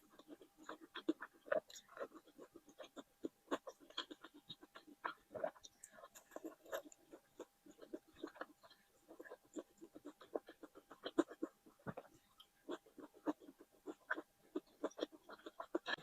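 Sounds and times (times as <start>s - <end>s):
chewing with mouth clicks: 0.0s - 16.0s.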